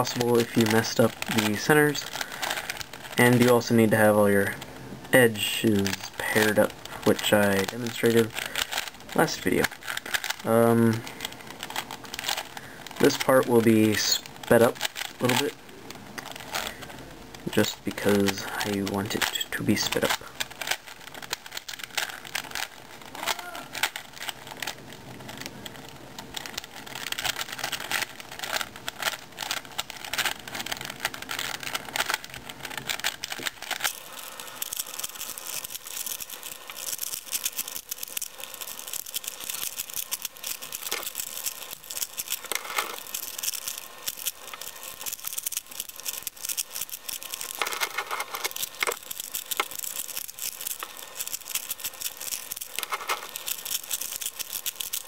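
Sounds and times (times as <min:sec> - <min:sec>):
puzzle cube clicking and rattling: 0:00.0 - 0:55.0.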